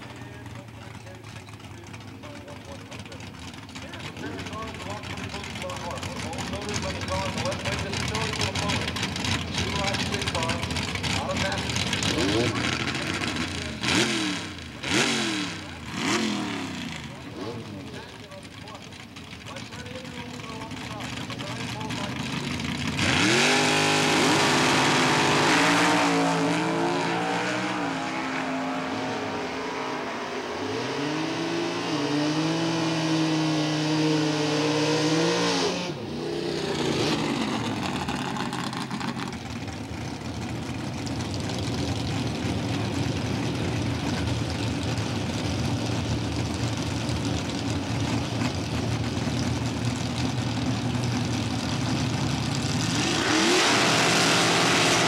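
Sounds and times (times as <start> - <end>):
drag car engine accelerating: 0.0 - 55.0.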